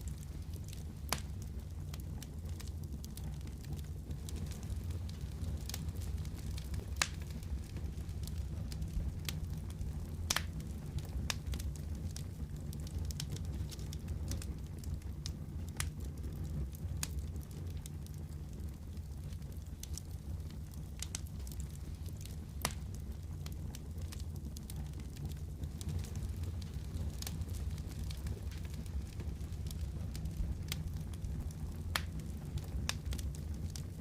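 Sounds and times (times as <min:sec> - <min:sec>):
wood fire crackling: 0:00.0 - 0:34.0
pops and snaps of fire: 0:00.1 - 0:16.0, 0:17.0 - 0:34.0.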